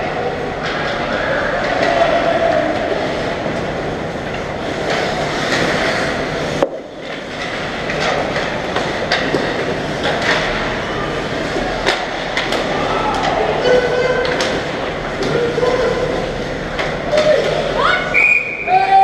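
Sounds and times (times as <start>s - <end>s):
hockey sticks clattering: 0.0s - 18.2s
skates scraping on ice: 0.5s - 18.2s.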